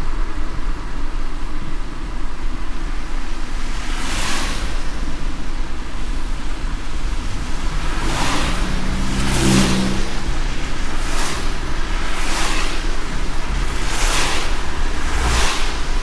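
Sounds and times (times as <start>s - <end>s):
car road noise rumble: 0.0s - 16.0s
low engine hum: 0.0s - 16.0s
wet tyre hiss: 0.2s - 16.0s.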